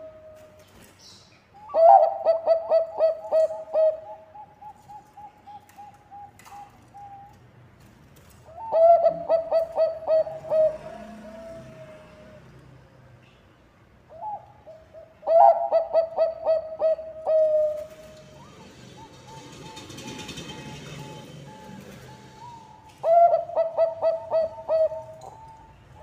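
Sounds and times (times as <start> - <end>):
dove staccato cooing song: 0.0 - 0.8, 1.6 - 7.5, 8.4 - 12.7, 14.1 - 26.0.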